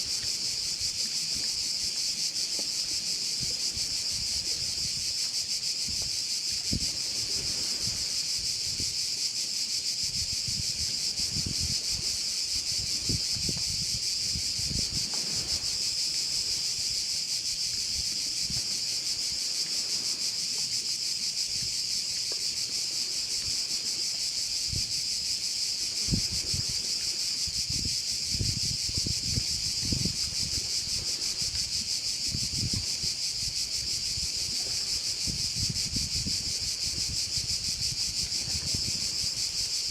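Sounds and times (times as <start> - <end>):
wind rumble on microphone: 0.0 - 9.2, 9.9 - 20.2, 23.0 - 39.9
crickets chirping: 0.0 - 39.9.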